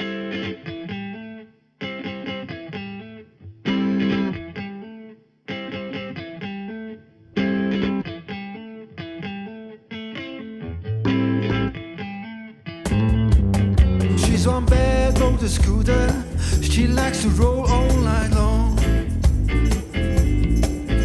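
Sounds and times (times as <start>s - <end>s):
electric guitar riff: 0.0s - 21.0s.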